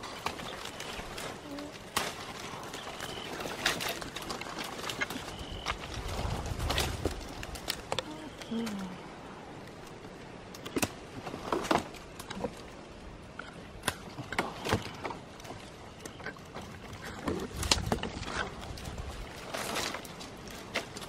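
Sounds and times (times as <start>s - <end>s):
dry twigs crackling and snapping: 0.0s - 21.0s.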